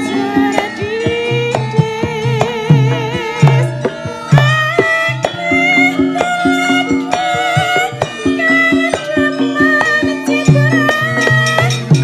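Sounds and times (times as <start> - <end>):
hand drum strokes: 0.0 - 12.0
metallophone notes: 0.0 - 12.0
wavering melody line: 0.0 - 12.0.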